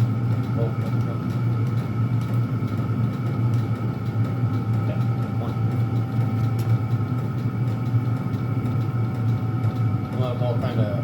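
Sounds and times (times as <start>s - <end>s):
air heaters humming: 0.0s - 11.0s
fan whine: 0.0s - 11.0s.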